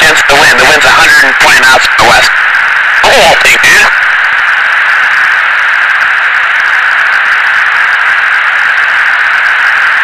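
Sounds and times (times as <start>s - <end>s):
intercom radio hiss: 0.0s - 10.0s.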